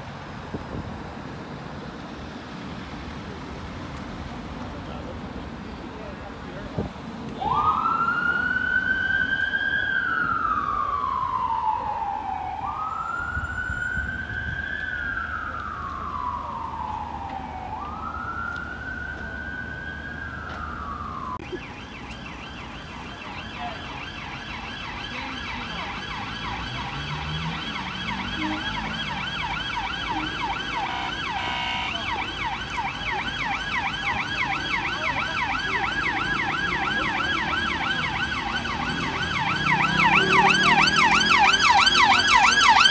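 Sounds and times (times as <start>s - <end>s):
ambulance siren wailing: 7.4s - 42.9s
police siren yelping: 7.4s - 42.9s.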